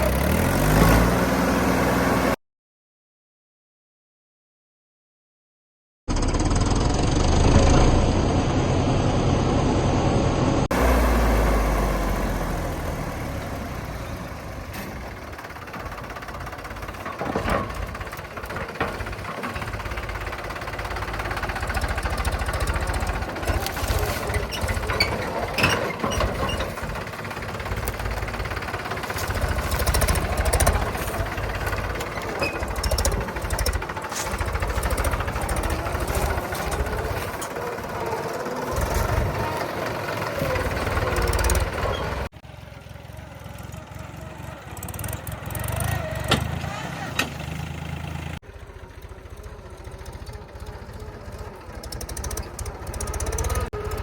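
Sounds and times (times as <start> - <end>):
diesel machinery engine rumble: 6.1 - 54.0.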